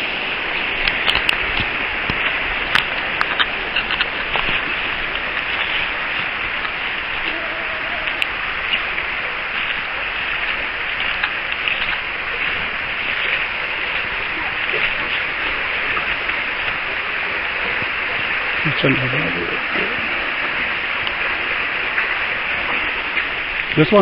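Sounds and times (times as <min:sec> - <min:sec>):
crackling hiss of water: 0:00.0 - 0:24.0.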